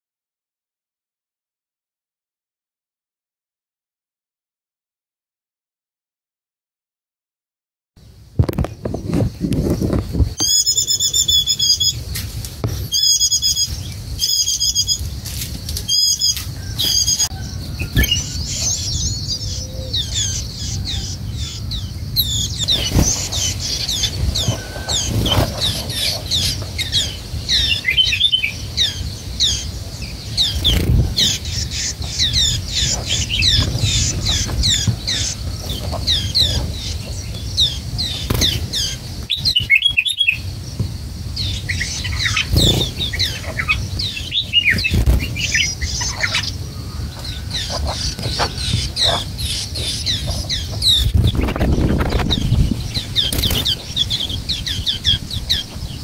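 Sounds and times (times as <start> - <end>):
birds chirping: 8.0 - 56.0.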